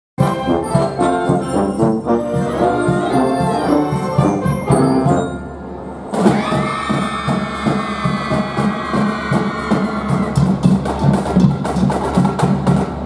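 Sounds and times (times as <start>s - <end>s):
wind band playing: 0.2s - 13.0s.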